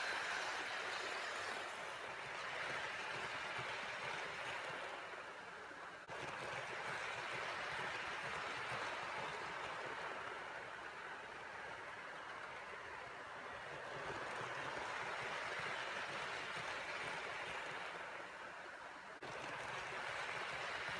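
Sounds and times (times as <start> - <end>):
model train running on track: 0.0 - 20.9.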